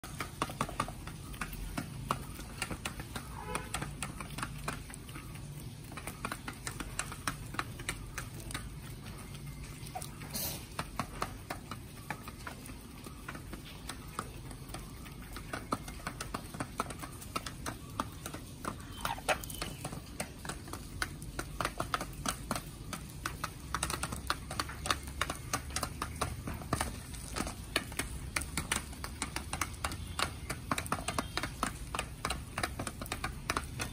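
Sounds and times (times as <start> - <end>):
chickens pecking beak taps: 0.0 - 33.9.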